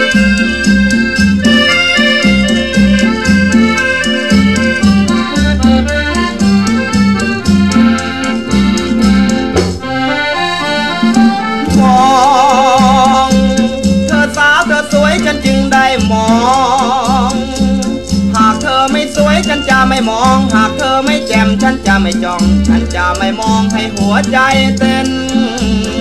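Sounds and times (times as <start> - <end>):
band melody over bass beat: 0.0 - 26.0.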